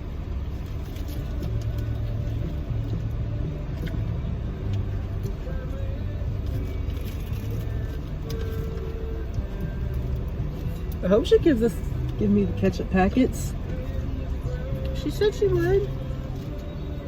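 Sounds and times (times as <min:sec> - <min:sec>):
car engine idling: 0:00.0 - 0:17.0
faint music: 0:00.0 - 0:17.0.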